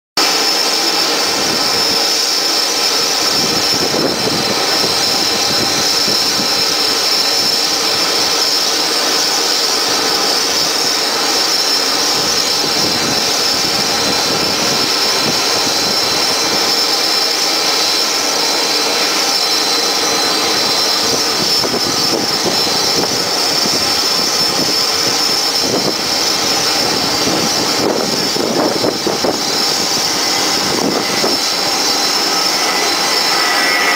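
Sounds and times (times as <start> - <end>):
jet engines running with whine: 0.2 - 33.9.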